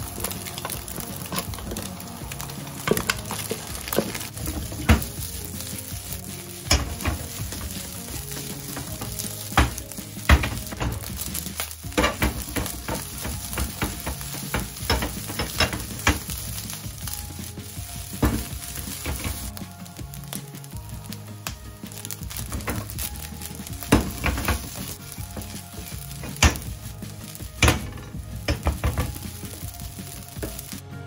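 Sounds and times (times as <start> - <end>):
rice sizzling in a wok: 0.0 - 31.0.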